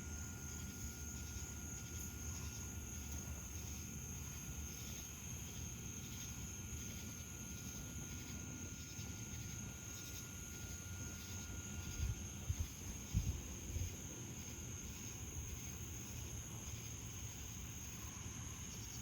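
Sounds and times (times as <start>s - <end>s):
cicadas buzzing: 0.0s - 19.0s
pulsing insect trill: 0.0s - 19.0s.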